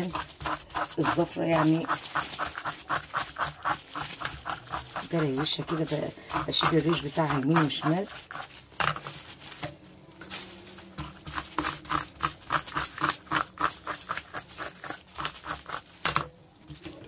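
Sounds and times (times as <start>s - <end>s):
knife scraping fish scales: 0.0s - 9.6s, 10.2s - 16.2s.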